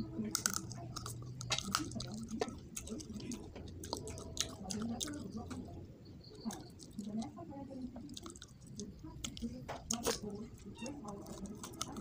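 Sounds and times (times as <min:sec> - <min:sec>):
wet chewing and mouth smacks: 0:00.0 - 0:12.0.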